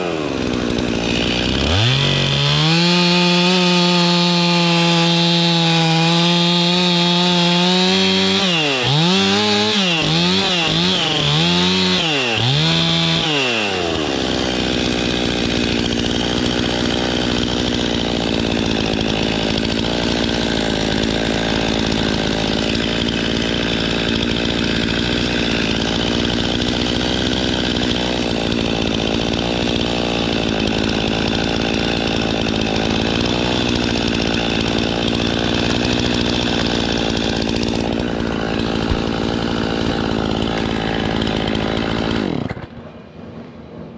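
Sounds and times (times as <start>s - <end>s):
chainsaw running: 0.0s - 43.0s.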